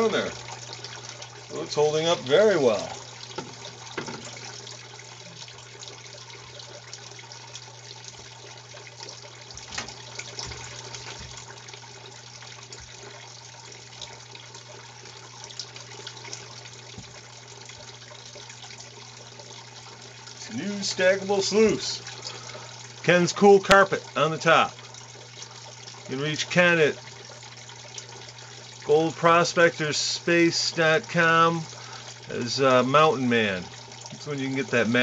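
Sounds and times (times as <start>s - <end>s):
water trickling through plastic sluice: 0.0s - 35.0s.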